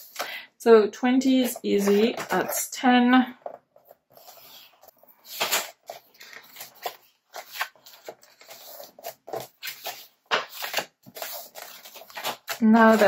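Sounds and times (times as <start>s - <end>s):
paper rustling and folding: 1.3s - 2.7s, 3.4s - 13.0s.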